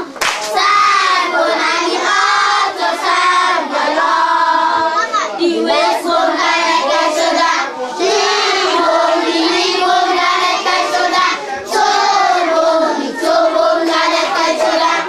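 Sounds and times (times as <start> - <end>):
children singing: 0.0 - 15.0.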